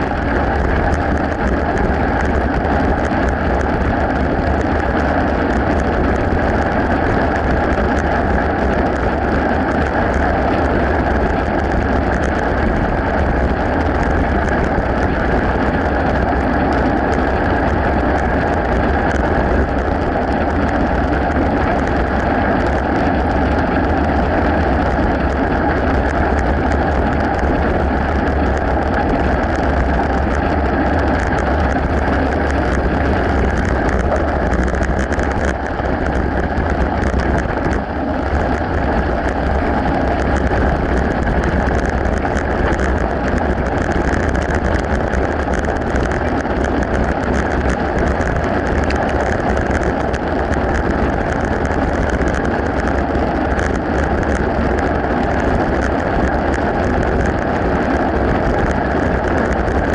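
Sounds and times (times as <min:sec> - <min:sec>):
bike rattling clicks: 0:00.0 - 0:59.9
bike tyres on gravel and asphalt: 0:00.0 - 0:59.9
wind buffeting microphone: 0:00.0 - 0:59.9.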